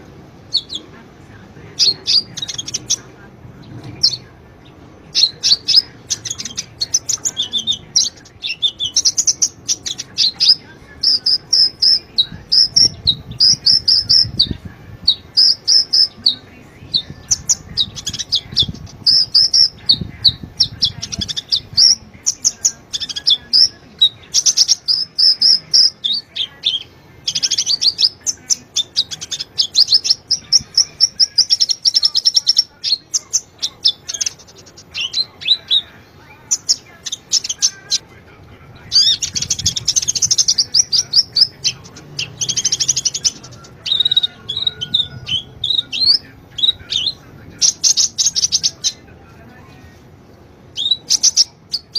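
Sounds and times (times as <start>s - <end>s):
bird twittering: 0.5s - 0.9s, 1.8s - 4.3s, 5.1s - 38.0s, 38.9s - 49.0s, 50.7s - 51.9s.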